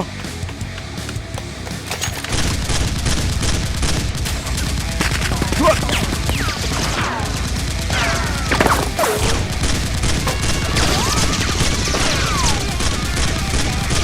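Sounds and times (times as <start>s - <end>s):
rapid toy gunfire: 1.9s - 14.0s.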